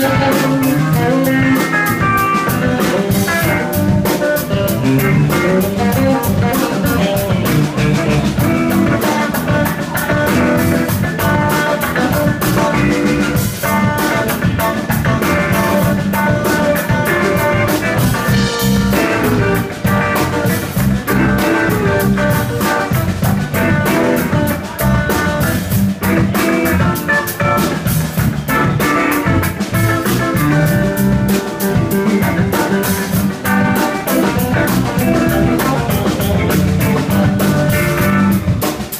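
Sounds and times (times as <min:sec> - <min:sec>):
drum kit beat on cymbals: 0:00.0 - 0:38.9
electric bass: 0:00.0 - 0:38.9
electric guitars: 0:00.0 - 0:38.9.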